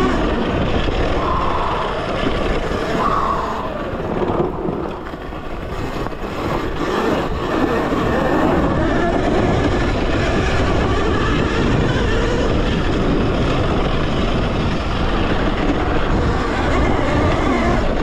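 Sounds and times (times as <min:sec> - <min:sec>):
dirt bike tyre and drivetrain noise: 0:00.0 - 0:18.0
wind rushing on microphone: 0:00.0 - 0:18.0.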